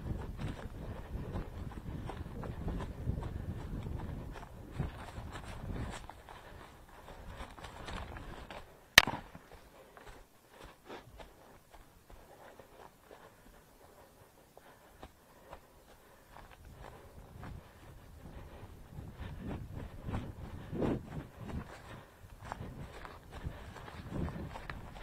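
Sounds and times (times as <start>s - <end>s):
footsteps crackling twigs and leaves: 0.0s - 25.0s.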